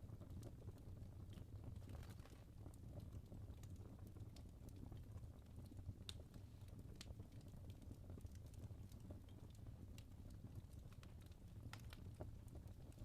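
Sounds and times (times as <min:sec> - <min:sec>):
low rumble of flames: 0:00.0 - 0:13.0
logs crackling and popping: 0:00.1 - 0:13.0.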